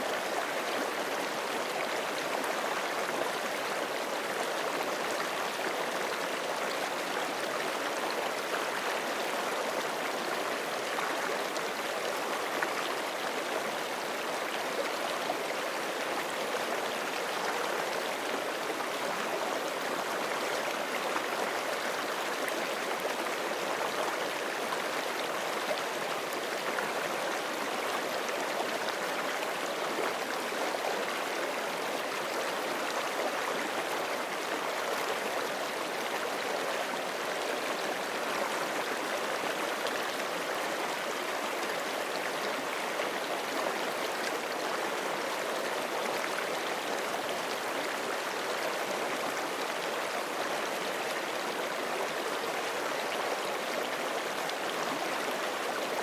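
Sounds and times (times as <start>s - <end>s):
creek flowing over rocks: 0.0s - 56.0s.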